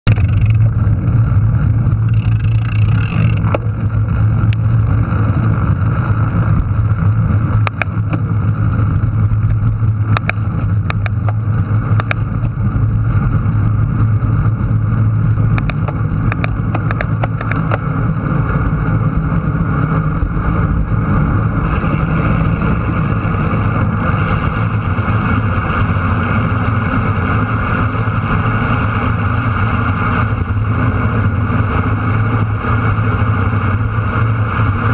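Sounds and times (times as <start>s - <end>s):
vehicle engine running: 0.0s - 34.9s
wind and road noise: 0.0s - 34.9s.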